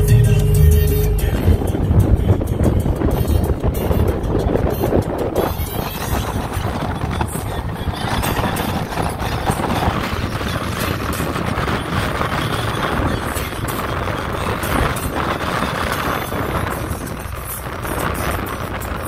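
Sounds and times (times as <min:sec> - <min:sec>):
engine noise: 0:00.0 - 0:19.0
road noise: 0:00.0 - 0:19.0
wind noise: 0:00.0 - 0:19.0.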